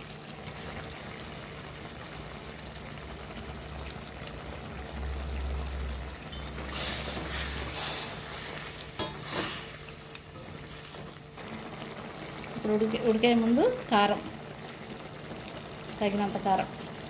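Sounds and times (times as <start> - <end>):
curry simmering and sizzling in oil: 0.0 - 17.0.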